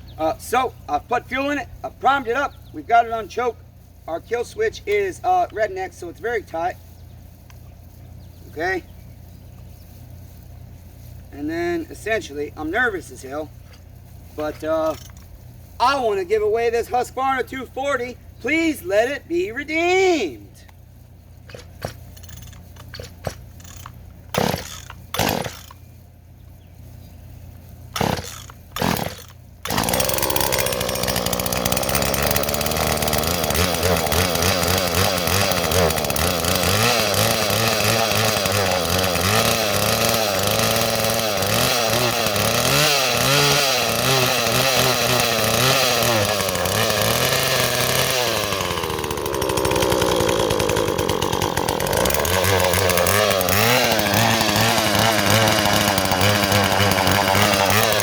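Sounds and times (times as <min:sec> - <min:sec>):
chainsaw pull-start: 0:00.1 - 0:06.8, 0:11.1 - 0:19.1, 0:21.4 - 0:25.9, 0:27.8 - 0:58.0
chainsaw engine running unevenly: 0:00.1 - 0:58.0.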